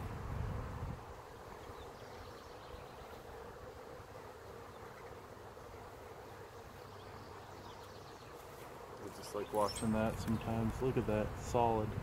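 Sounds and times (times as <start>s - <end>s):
bees buzzing: 1.0s - 11.6s.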